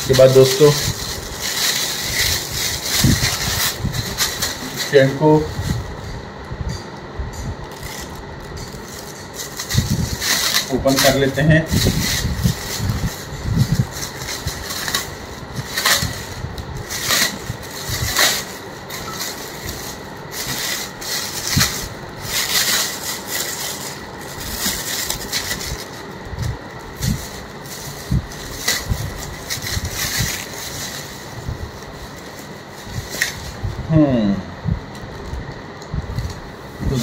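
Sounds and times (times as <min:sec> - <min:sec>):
plastic wrapping rustling: 0:00.0 - 0:06.4, 0:07.6 - 0:34.0, 0:34.7 - 0:37.0.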